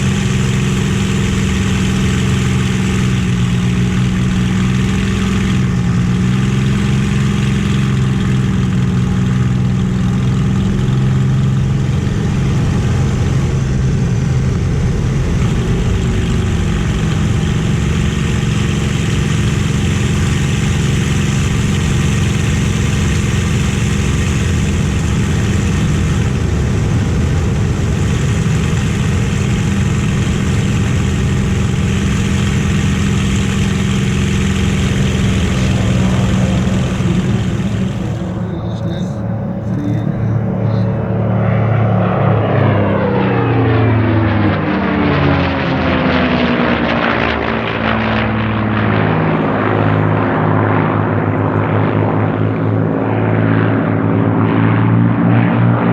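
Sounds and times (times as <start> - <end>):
aircraft engine droning: 0.0 - 55.9.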